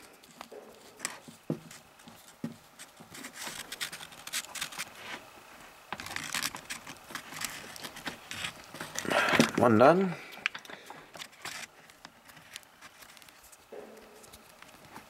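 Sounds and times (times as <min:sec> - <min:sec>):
rustling: 0:00.0 - 0:09.6, 0:10.5 - 0:15.0
hands scraping wires: 0:00.0 - 0:09.7, 0:10.3 - 0:15.0.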